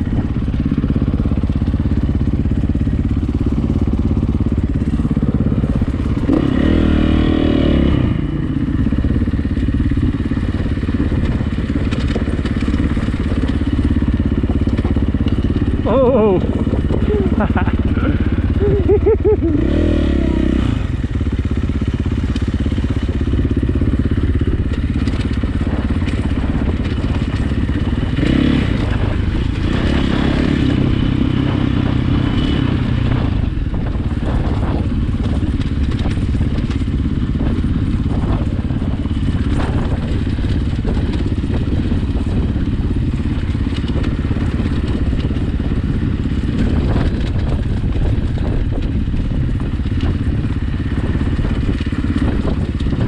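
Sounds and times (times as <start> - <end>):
dirt bike engine: 0.0 - 53.0.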